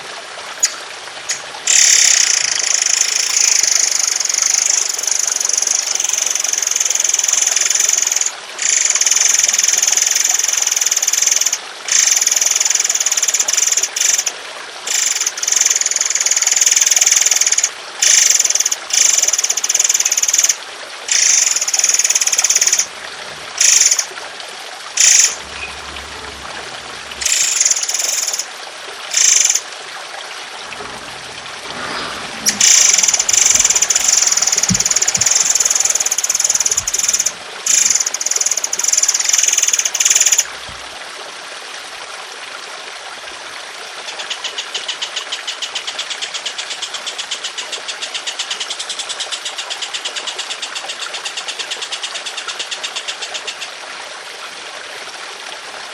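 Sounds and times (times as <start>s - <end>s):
water trickling: 0.0s - 45.0s.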